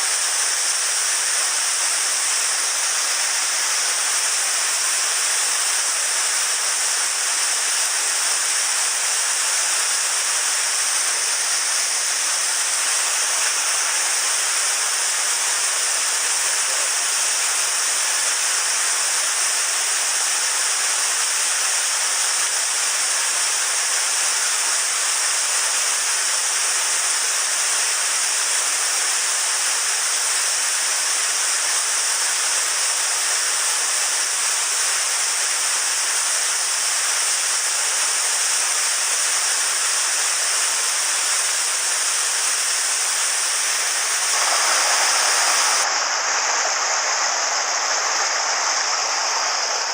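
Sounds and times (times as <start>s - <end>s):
stream water rushing: 0.0s - 25.6s, 34.5s - 49.9s.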